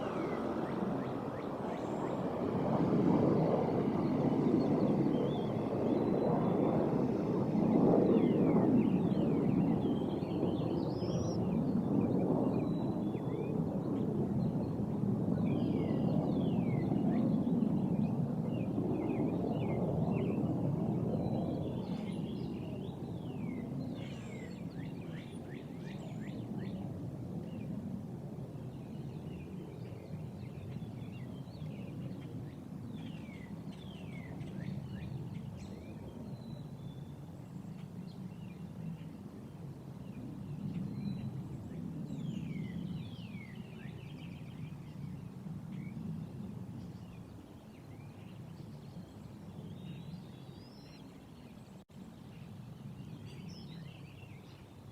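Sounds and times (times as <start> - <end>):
jet aircraft rumble: 0.0 - 50.0.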